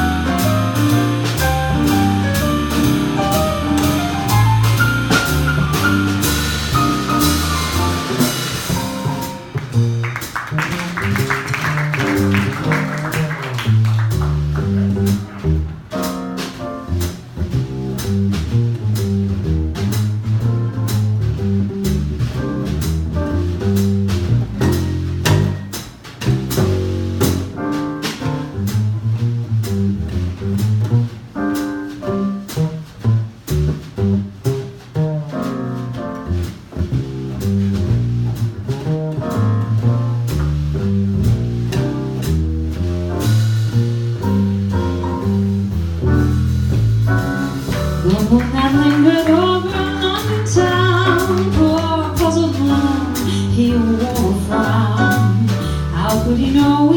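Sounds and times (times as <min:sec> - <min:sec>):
light drums: 0:00.0 - 0:56.9
piano: 0:00.0 - 0:56.9
plucked double bass solo: 0:00.0 - 0:56.9.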